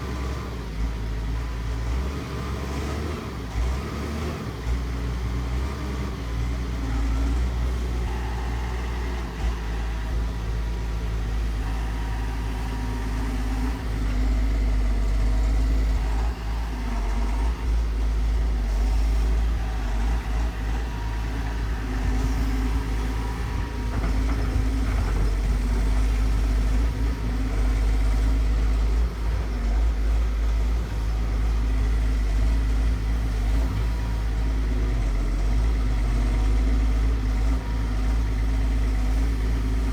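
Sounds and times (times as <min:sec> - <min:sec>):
excavator diesel engine rumbling: 0:00.0 - 0:39.9.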